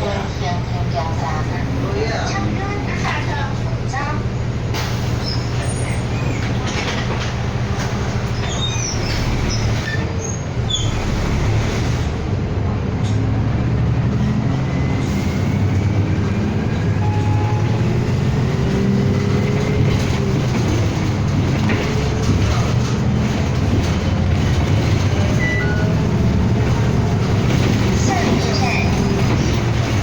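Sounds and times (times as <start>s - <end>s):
bus engine drone: 0.0s - 30.0s
road rumble: 0.0s - 30.0s.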